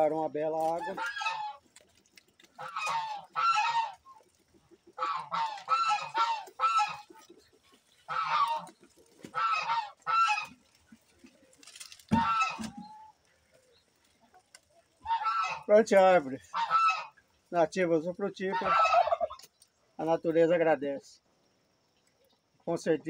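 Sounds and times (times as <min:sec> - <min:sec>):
farmyard fowl calling: 0:00.0 - 0:20.6.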